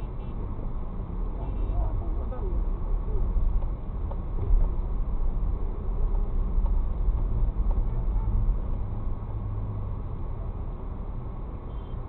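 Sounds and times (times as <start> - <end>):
car rumbling in traffic: 0.0 - 12.0.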